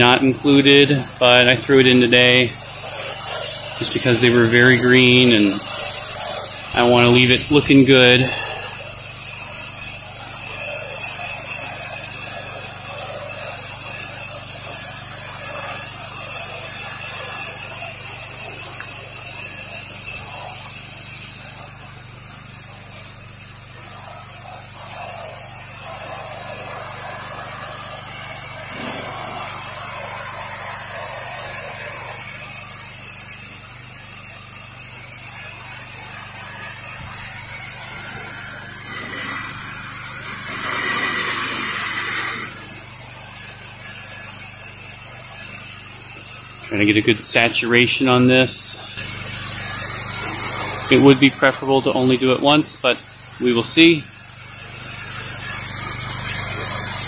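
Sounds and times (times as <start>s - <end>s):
pressure washer humming: 0.0s - 57.0s
spray gun hissing: 0.0s - 57.0s.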